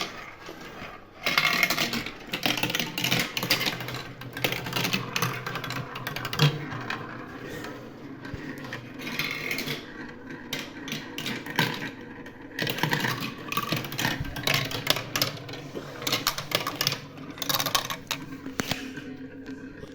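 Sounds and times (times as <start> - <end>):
marbles rolling and clattering: 0.0 - 19.9.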